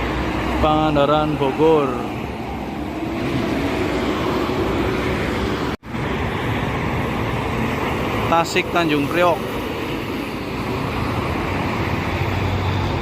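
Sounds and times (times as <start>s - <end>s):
traffic rushing past: 0.0s - 13.0s.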